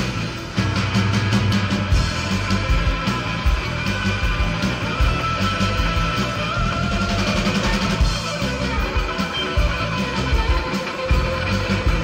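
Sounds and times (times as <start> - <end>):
bass line: 0.0 - 12.0
drum kit: 0.0 - 12.0
electric guitar: 0.0 - 12.0.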